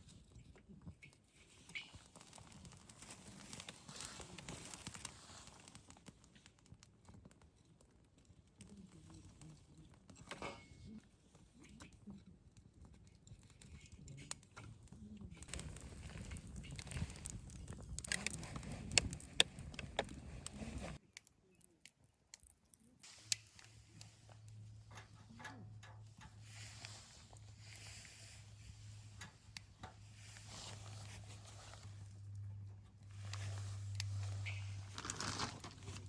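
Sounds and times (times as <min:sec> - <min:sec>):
crinkling and rustling: 0:00.0 - 0:21.2, 0:22.4 - 0:36.0.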